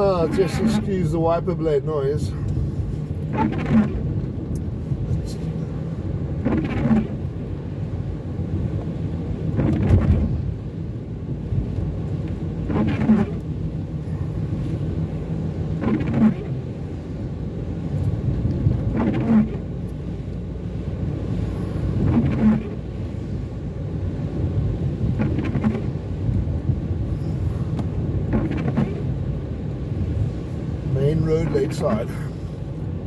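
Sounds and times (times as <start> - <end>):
car driving in rain rumble: 0.0 - 33.0
windscreen wipers sweeping: 0.0 - 33.0.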